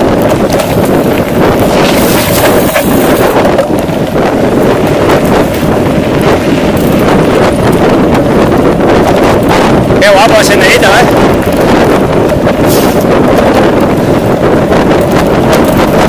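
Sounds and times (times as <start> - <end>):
bike rattles and knocks: 0.0 - 16.0
wind buffeting microphone: 0.0 - 16.0.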